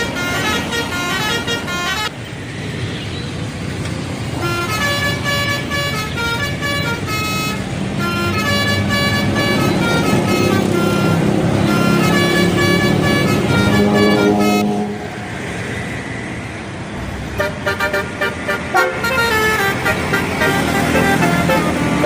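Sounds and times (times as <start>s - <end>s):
bus horn tooting melody: 0.0s - 2.2s, 4.3s - 15.4s, 17.4s - 22.0s
engine and traffic noise: 0.0s - 22.0s.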